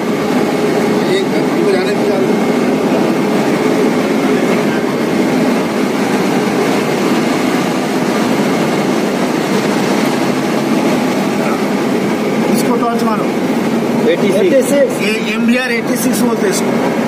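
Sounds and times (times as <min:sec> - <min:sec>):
locomotive machinery noise: 0:00.0 - 0:17.0.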